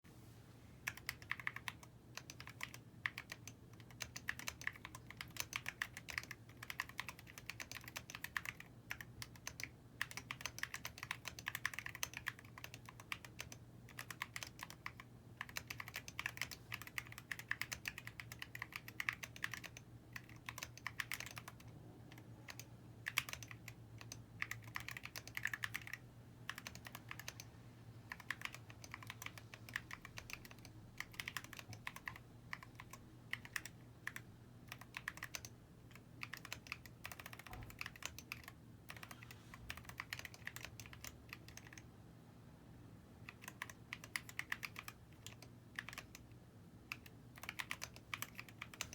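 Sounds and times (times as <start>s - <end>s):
mechanical keyboard typing: 0.8s - 27.5s, 28.1s - 41.9s, 43.2s - 48.9s.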